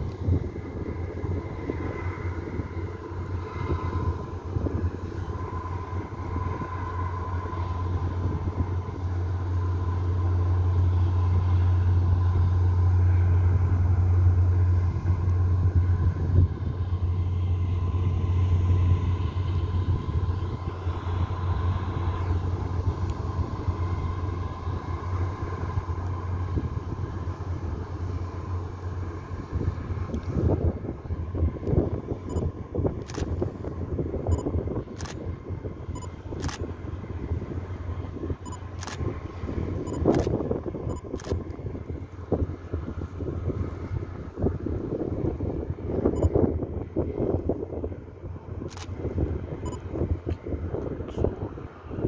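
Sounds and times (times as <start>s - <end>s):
low engine rumble: 0.0s - 52.0s.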